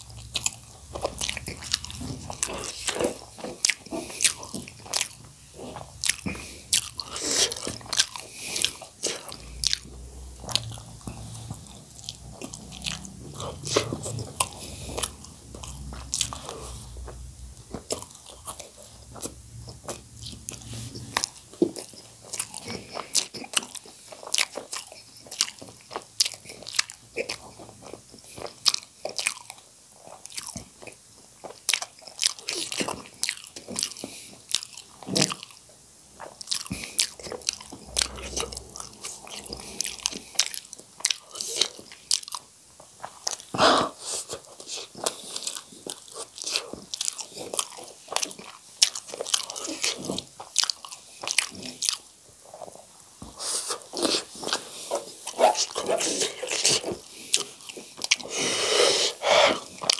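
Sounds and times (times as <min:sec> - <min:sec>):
chewing and biting: 0:00.0 - 0:59.9.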